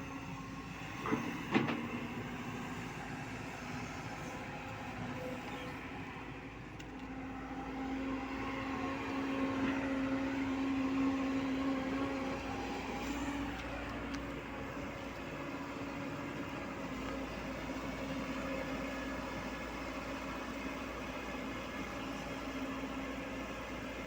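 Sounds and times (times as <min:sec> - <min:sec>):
excavator diesel engine and hydraulics: 0:00.0 - 0:24.0.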